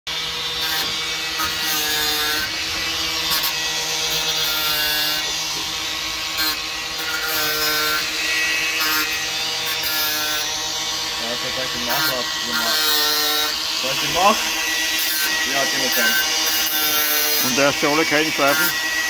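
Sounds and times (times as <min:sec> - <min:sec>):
angle grinder whining: 0:00.1 - 0:19.0
grinder disc rasping on metal: 0:00.2 - 0:19.0.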